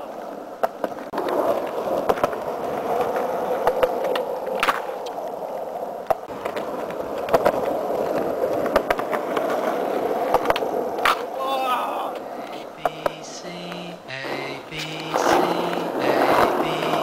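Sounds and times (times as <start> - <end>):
skateboard clacking on pavement: 0.0 - 11.4, 12.1 - 17.0
skateboard wheels rolling on concrete: 0.0 - 17.0.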